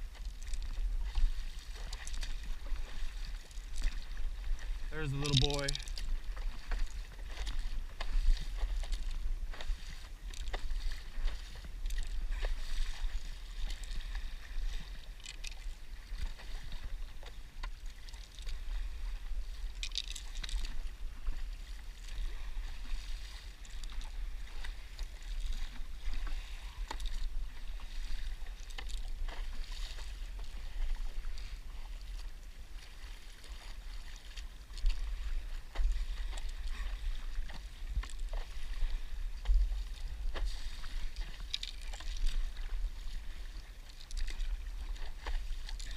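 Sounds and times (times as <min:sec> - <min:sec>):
paddle pulling through water: 0:00.0 - 0:45.9
wind rumble on microphone: 0:00.0 - 0:45.9.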